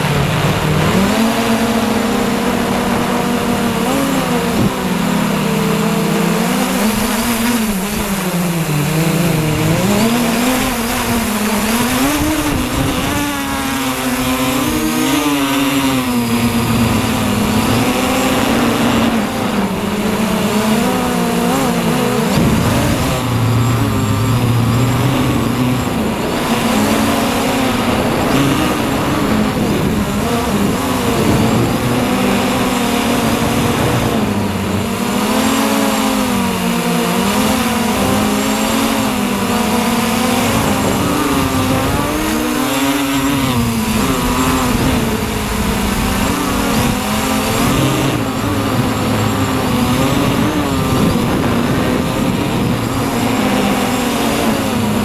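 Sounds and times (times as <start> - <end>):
drone motors buzzing: 0.0 - 55.0.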